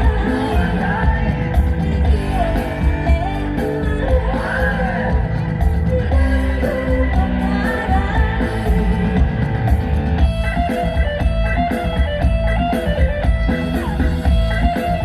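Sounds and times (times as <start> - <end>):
bass: 0.0 - 15.0
electric guitar melody: 0.0 - 15.0
steady drum beat: 0.0 - 15.0.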